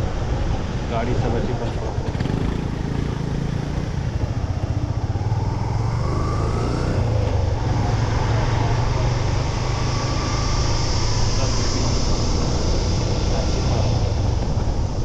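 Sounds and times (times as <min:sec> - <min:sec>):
motorcycle engine running: 0:01.9 - 0:15.0.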